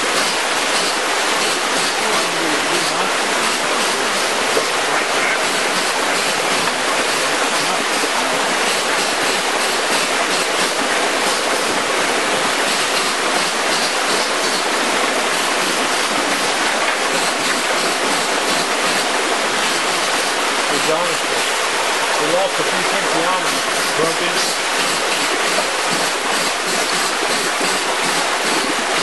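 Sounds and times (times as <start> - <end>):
turbulent water rushing: 0.0 - 29.0.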